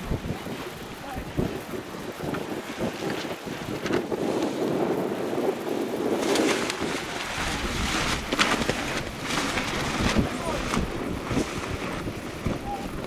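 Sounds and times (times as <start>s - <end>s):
water noise: 0.0s - 13.0s
wind on microphone: 0.0s - 13.0s.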